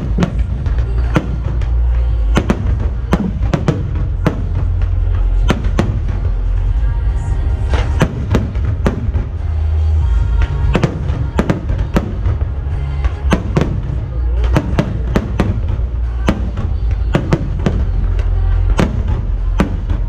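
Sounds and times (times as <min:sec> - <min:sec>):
fireworks exploding: 0:00.0 - 0:20.0
loud music with heavy bass: 0:00.0 - 0:20.0.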